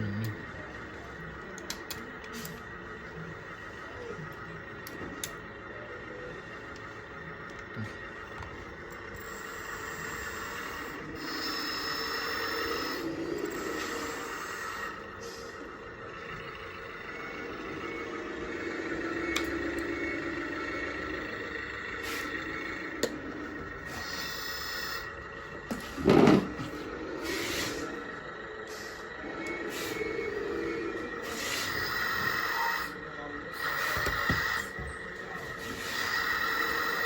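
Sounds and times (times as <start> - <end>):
hydraulic pump whining: 0.0 - 37.0.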